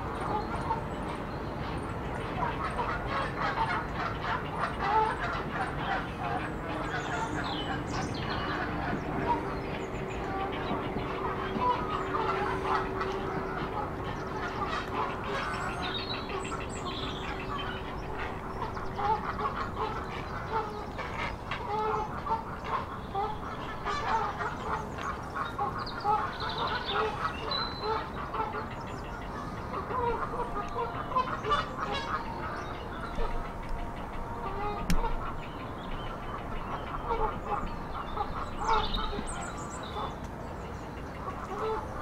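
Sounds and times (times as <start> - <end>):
steady low hum: 0.0 - 42.0
waterfowl calling: 2.4 - 40.3, 40.9 - 42.0.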